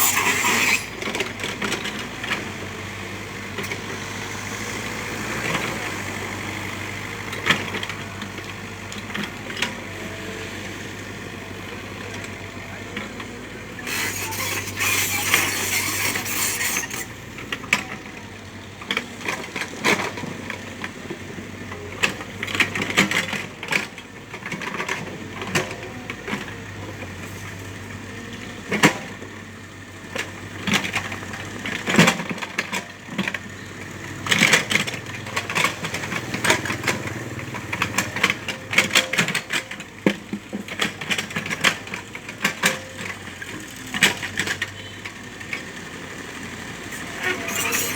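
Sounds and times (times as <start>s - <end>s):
excavator engine running: 0.0s - 47.9s.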